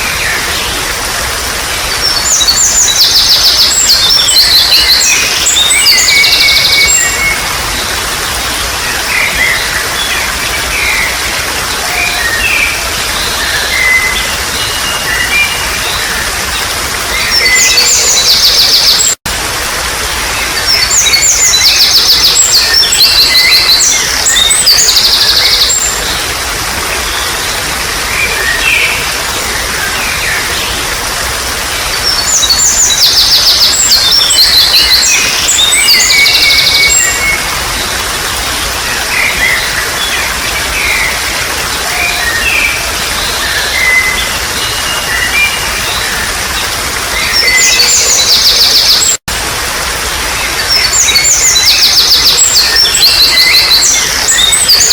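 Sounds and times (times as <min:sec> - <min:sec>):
babbling water: 0:00.0 - 0:54.9.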